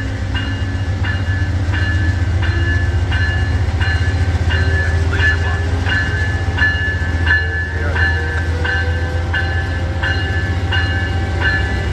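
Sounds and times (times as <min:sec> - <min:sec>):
train rumbling by: 0:00.0 - 0:11.9.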